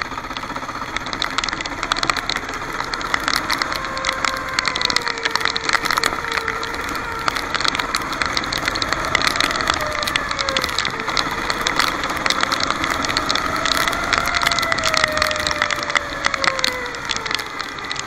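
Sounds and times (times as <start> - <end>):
kart engine running: 0.0 - 18.0
rattling clicks: 0.0 - 18.0.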